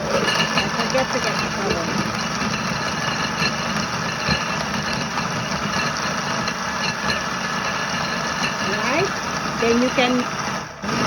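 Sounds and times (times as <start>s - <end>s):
electric blender running: 0.0s - 11.0s.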